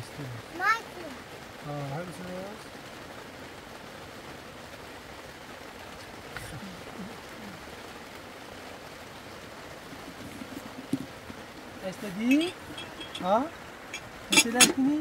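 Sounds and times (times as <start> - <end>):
rain on a canvas tent: 0.0 - 15.0.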